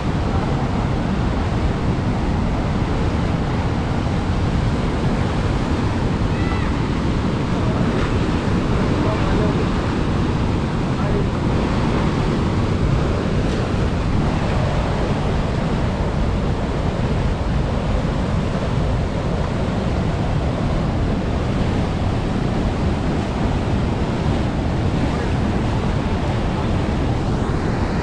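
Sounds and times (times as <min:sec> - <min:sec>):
water rushing over weir: 0:00.0 - 0:28.0
wind buffeting microphone: 0:00.0 - 0:28.0.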